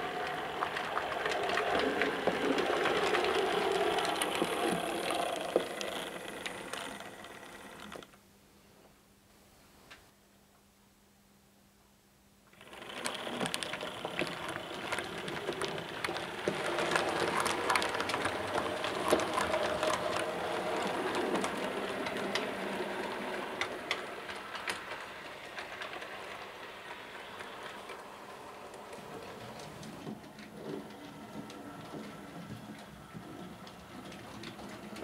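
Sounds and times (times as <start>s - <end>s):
wheels clicking over rail joints: 0.0s - 8.2s, 12.5s - 35.0s.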